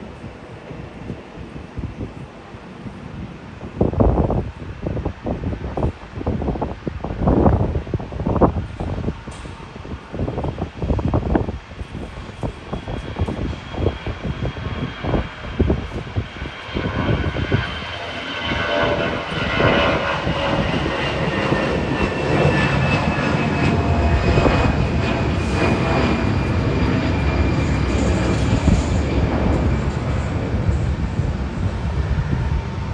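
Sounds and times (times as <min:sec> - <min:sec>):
jet engines roaring: 0:00.0 - 0:32.9.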